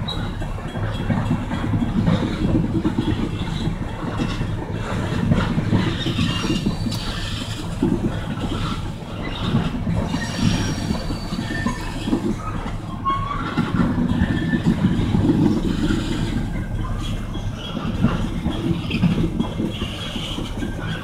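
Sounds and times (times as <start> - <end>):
freight cars rolling over rails: 0.0 - 21.0
wheel squeals: 0.0 - 21.0.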